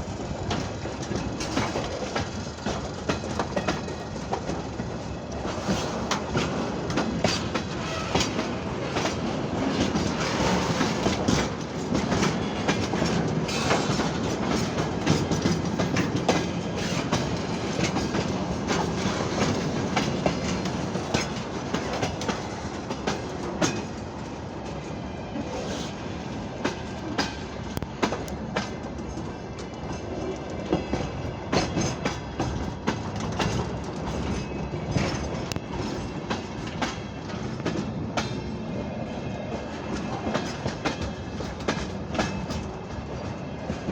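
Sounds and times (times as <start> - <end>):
train wheels clattering on rails: 0.0 - 43.9.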